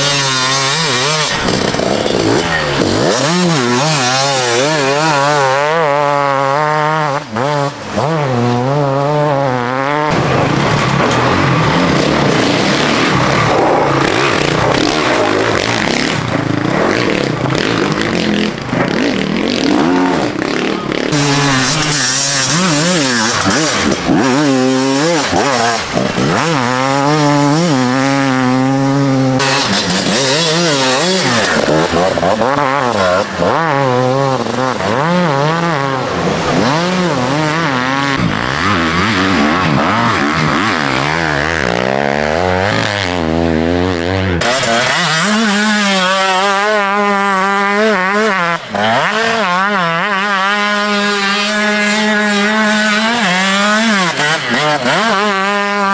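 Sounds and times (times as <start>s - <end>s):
dirt bikes revving: 0.0s - 55.9s.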